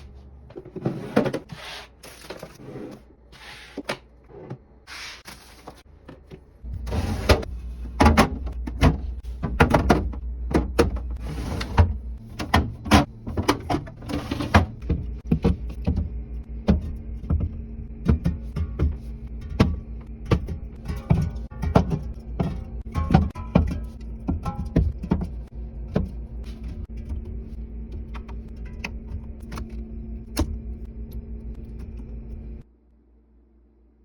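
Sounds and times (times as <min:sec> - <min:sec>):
refrigerator hum: 0:00.0 - 0:34.0.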